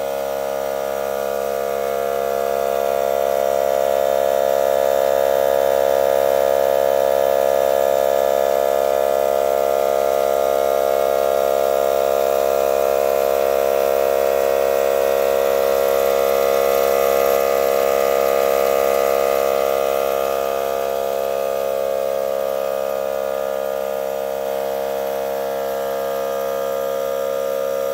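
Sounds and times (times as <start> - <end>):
air compressor running: 0.0 - 27.9.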